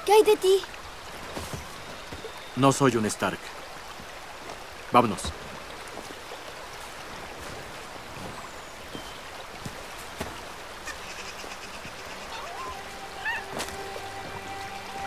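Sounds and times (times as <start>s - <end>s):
flowing stream: 0.0s - 15.0s.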